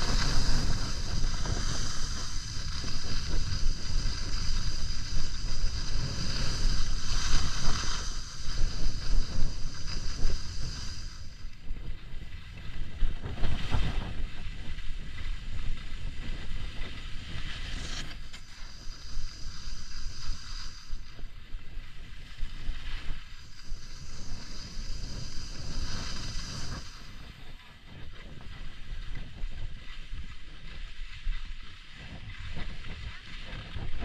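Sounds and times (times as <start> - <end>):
skis carving over snow: 0.0 - 34.0
wind rumbling on microphone: 0.0 - 34.0.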